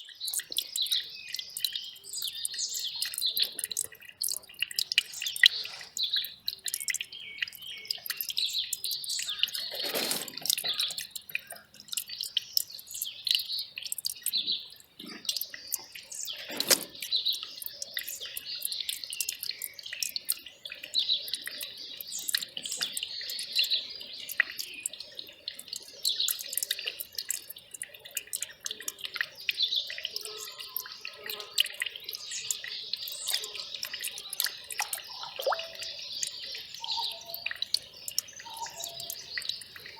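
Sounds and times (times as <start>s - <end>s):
small birds chirping: 0.0s - 39.9s
stream trickling and dripping: 0.0s - 39.9s.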